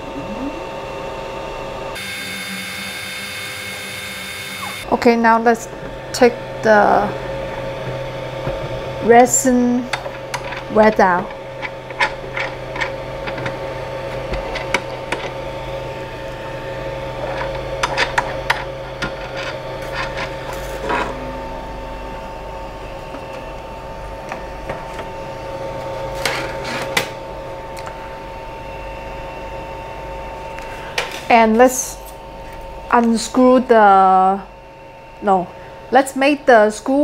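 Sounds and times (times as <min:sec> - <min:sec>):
machine hum and whine: 0:00.0 - 0:37.0.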